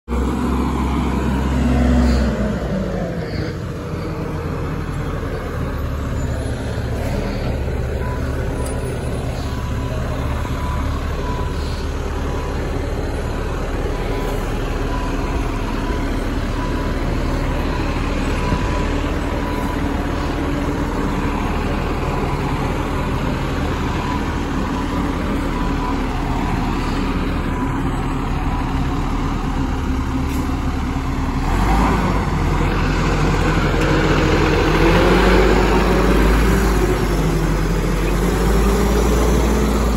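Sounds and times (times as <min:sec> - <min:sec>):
truck engine running: 0:00.1 - 0:39.9.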